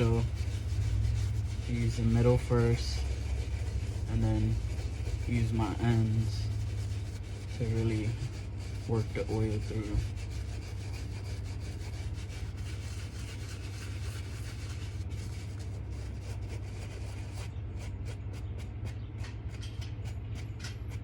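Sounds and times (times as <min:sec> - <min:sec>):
brush scrubbing suede: 0:00.0 - 0:19.0
steady low hum: 0:00.0 - 0:21.0.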